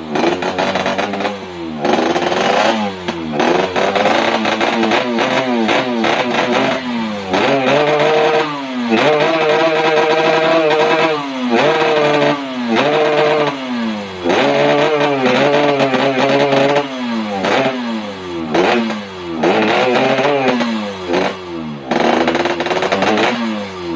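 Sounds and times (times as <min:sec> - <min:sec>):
two-stroke engine revving: 0:00.0 - 0:23.9.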